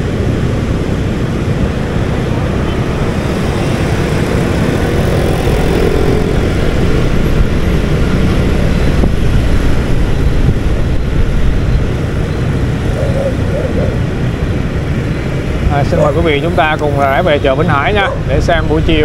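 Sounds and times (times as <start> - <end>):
wind on microphone: 0.0 - 17.2
motorbike engine rumble: 0.0 - 19.0
passing traffic: 0.0 - 19.0.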